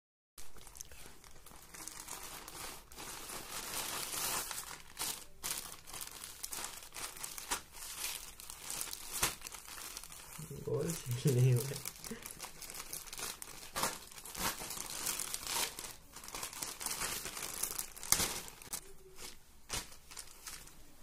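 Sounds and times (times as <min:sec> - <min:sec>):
plastic packaging crinkling: 0:00.4 - 0:20.8.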